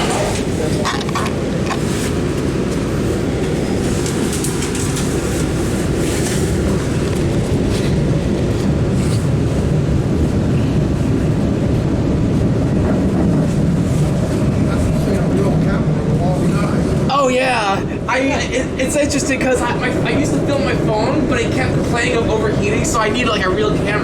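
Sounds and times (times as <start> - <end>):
subway wheels rumbling on rail: 0.0 - 24.0.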